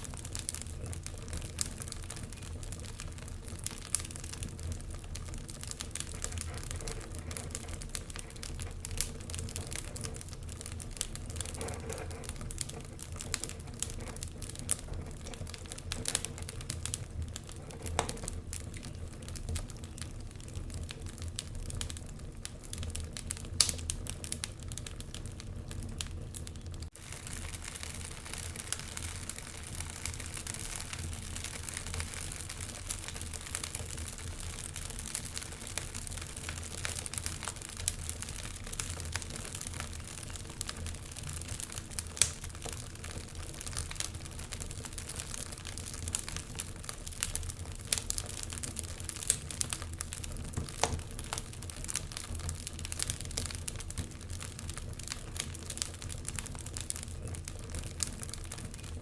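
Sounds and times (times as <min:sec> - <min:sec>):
fire crackling and popping: 0:00.0 - 0:59.0
fire low rumble: 0:00.0 - 0:59.0.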